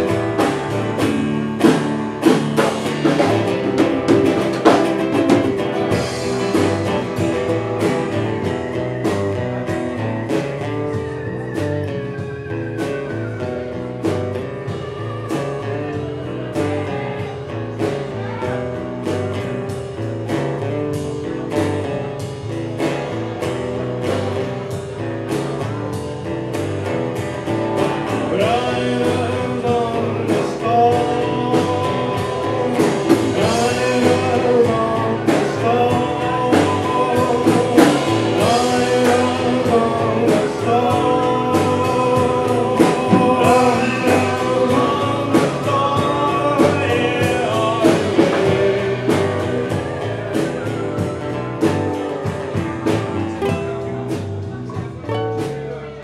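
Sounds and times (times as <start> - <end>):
man singing: 0.0 - 23.6, 24.2 - 56.0
steady drum beat: 0.0 - 55.8
electric bass: 0.0 - 56.0
strummed acoustic guitar: 0.0 - 56.0.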